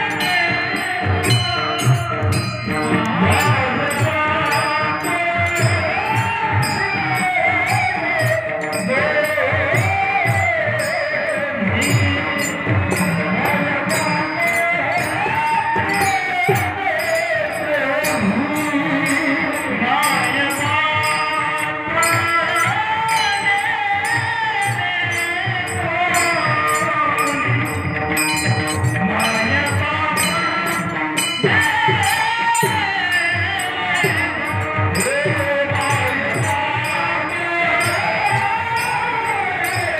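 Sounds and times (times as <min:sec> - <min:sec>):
jingling percussion: 0:00.0 - 0:39.9
man singing devotional song: 0:00.0 - 0:39.9.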